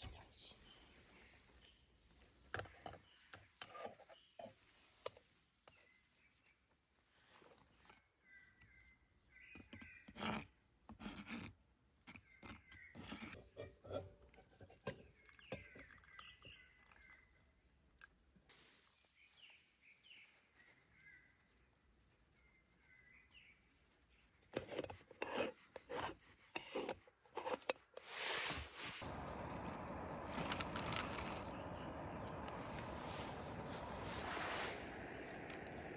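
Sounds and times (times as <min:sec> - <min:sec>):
small birds chirping: 0:00.0 - 0:04.8, 0:05.7 - 0:10.9, 0:11.9 - 0:13.6, 0:14.9 - 0:24.9, 0:28.8 - 0:35.9.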